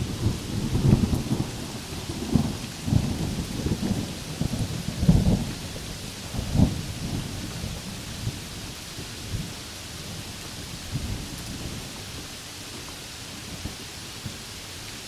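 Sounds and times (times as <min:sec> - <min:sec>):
thunder rumbling: 0:00.0 - 0:12.2
heavy rain hissing: 0:00.0 - 0:15.0.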